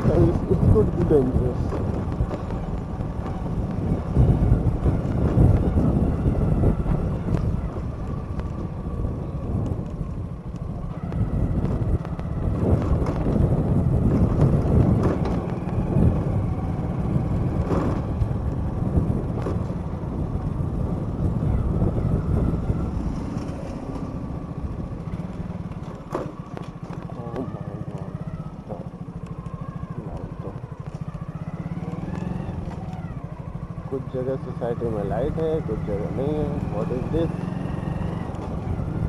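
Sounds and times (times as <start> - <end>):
motorcycle engine and road noise: 0.0 - 39.0.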